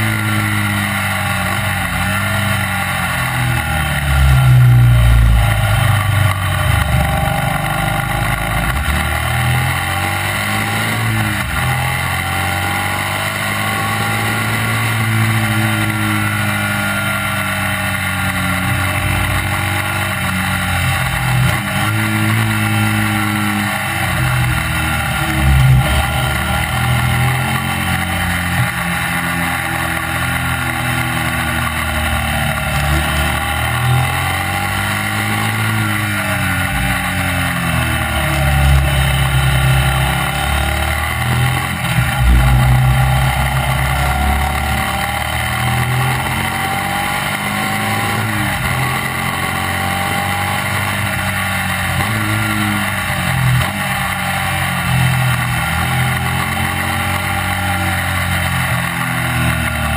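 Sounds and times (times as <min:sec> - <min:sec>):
racing engine revving: 0:00.0 - 0:59.9
road noise: 0:00.0 - 0:59.9.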